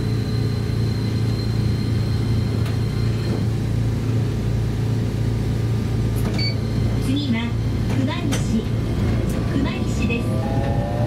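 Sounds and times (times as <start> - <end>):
tram motor hum and rumble: 0.0 - 11.0.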